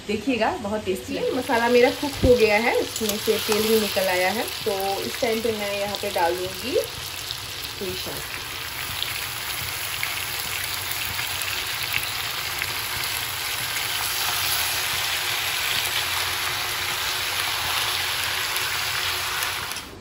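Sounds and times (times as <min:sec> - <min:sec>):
hot oil sizzling with crackles: 0:01.1 - 0:20.0.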